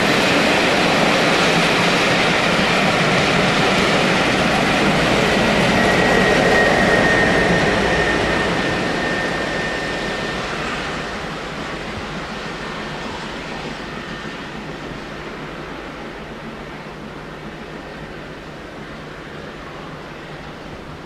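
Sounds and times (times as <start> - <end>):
passing train rumble: 0.0 - 21.0.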